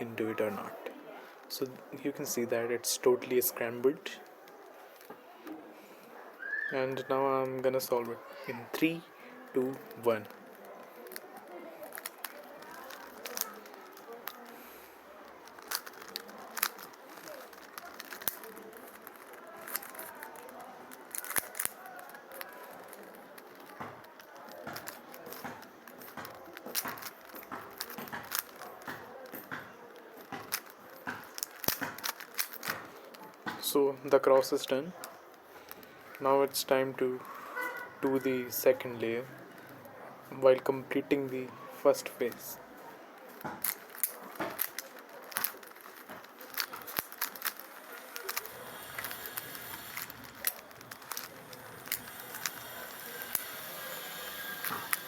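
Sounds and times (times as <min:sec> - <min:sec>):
plastic puzzle cube clicking: 0:07.0 - 0:42.6, 0:43.2 - 0:55.0.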